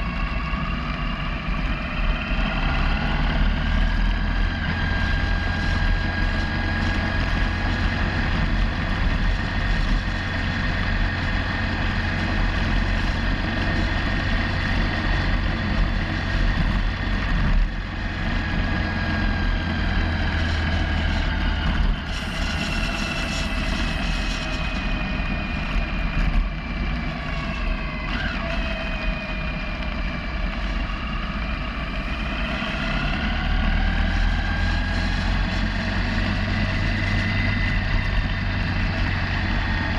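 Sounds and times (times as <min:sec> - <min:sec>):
low wind rumble: 0:00.0 - 0:39.9
motorcycle engine running: 0:00.0 - 0:39.9.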